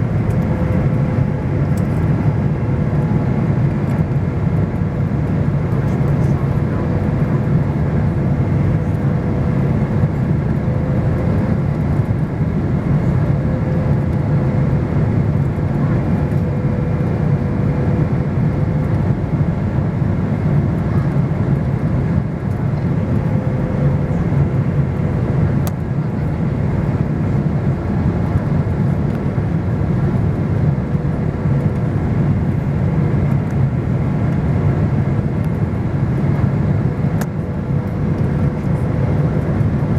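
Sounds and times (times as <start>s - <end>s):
jet engines rushing in cabin: 0.0s - 39.9s.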